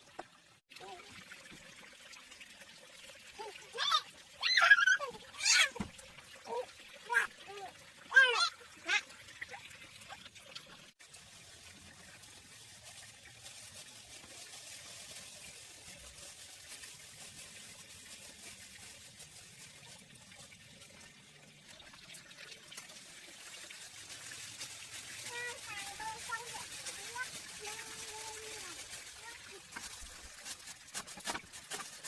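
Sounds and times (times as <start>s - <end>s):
faint water trickling: 0.0s - 32.0s.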